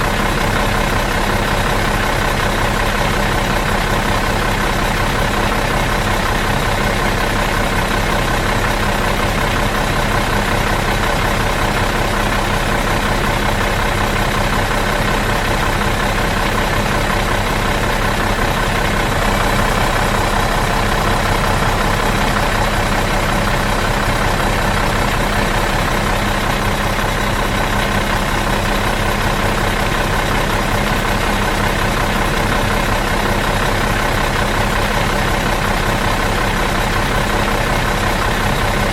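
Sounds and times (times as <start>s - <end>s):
bus engine idling: 0.0s - 38.9s.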